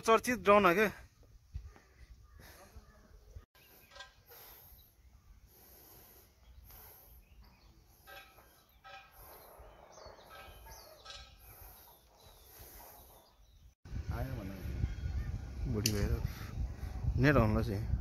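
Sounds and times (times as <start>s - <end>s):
birds chirping: 0.0s - 17.1s.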